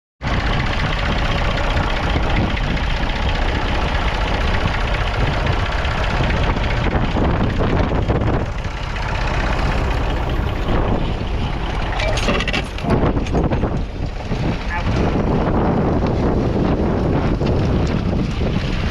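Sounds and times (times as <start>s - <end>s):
tractor diesel engine running: 0.2s - 18.9s.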